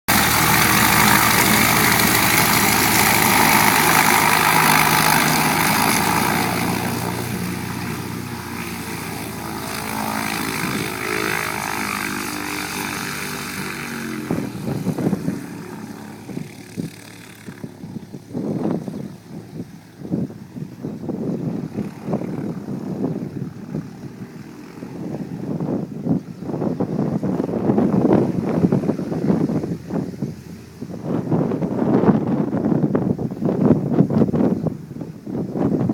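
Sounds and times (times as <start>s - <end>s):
propeller plane engine: 0.0s - 35.9s
wind buffeting microphone: 0.1s - 35.9s.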